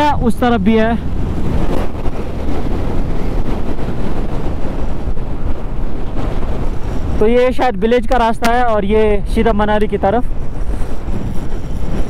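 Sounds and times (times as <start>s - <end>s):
tyres on road: 0.0s - 12.0s
wind noise on microphone: 0.0s - 12.0s.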